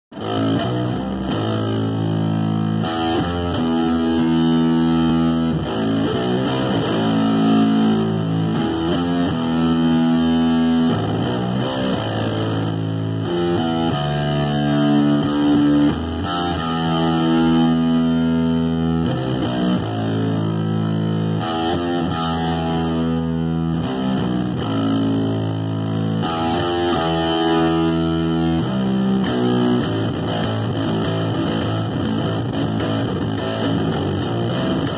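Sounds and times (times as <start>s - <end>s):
distorted electric bass riff: 0.1s - 34.9s.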